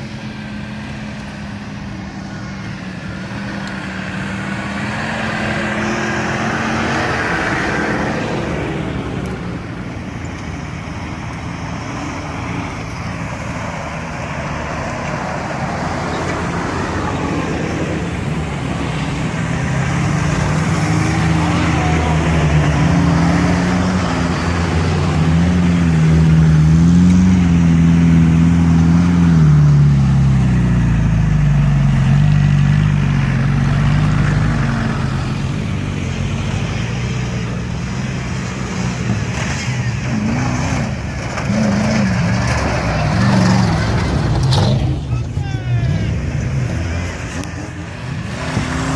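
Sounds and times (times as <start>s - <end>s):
off-road vehicles driving past: 0.0s - 48.9s.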